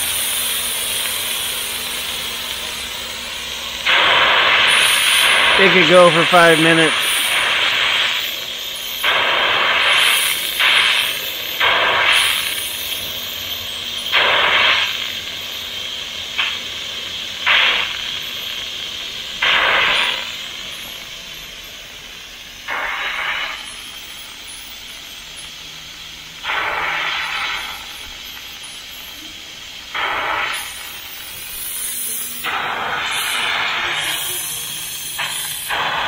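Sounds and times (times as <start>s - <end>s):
pressure cooker steam hissing: 0.0s - 36.0s.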